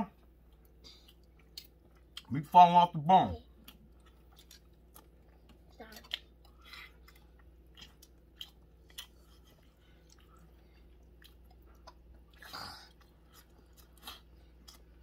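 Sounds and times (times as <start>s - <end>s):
person chewing meat: 0.1s - 2.4s, 3.4s - 15.0s.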